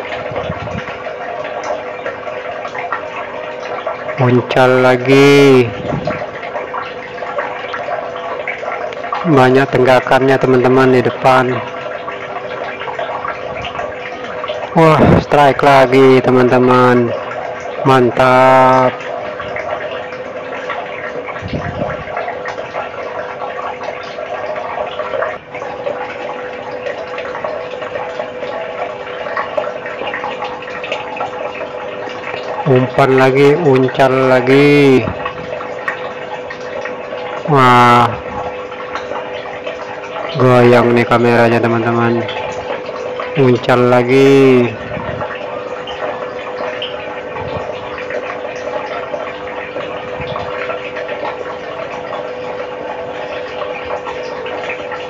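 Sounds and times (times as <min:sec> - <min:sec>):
low steady hum: 0:00.0 - 0:55.0
rushing water: 0:00.0 - 0:55.0.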